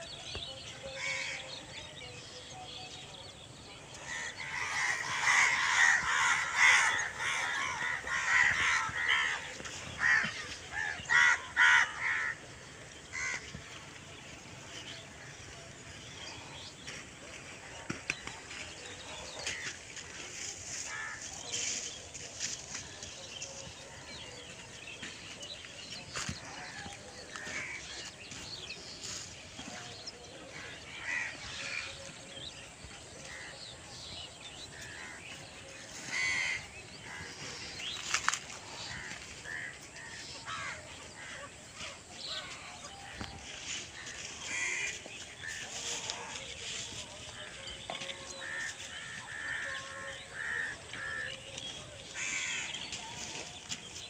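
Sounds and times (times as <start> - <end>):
birds calling: 0.0 - 54.0.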